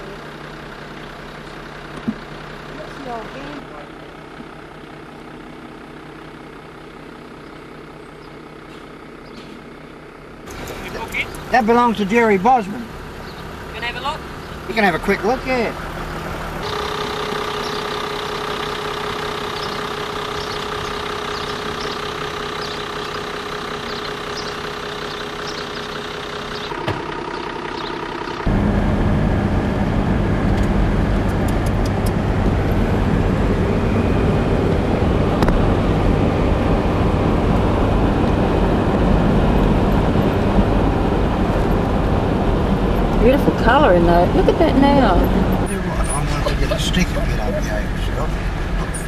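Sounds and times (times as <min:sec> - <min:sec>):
road and wind noise in car: 0:00.0 - 0:05.4, 0:07.9 - 0:49.0
car engine idling: 0:00.0 - 0:49.0.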